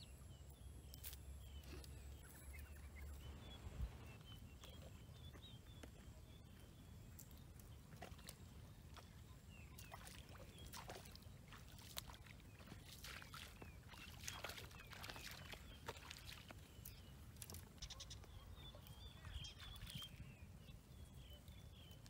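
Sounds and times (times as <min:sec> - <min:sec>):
low rumble of wind: 0:00.0 - 0:12.9, 0:16.5 - 0:22.0
small birds chirping: 0:00.0 - 0:22.0
feet wading through water: 0:02.3 - 0:21.2.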